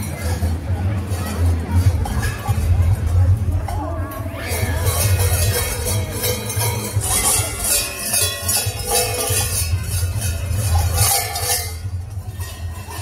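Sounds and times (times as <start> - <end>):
large cowbells clanging: 0.0 - 13.0.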